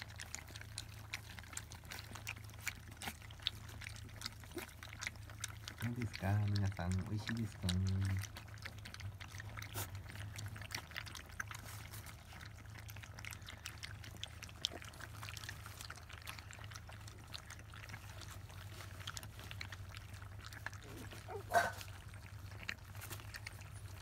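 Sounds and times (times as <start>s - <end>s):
low steady hum: 0.0s - 24.0s
puppies lapping and slurping food: 0.0s - 24.0s.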